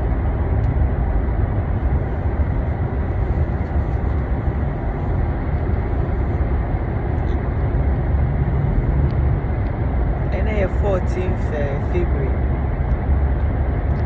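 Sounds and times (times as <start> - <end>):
low rumble of moving vehicle: 0.0 - 14.0.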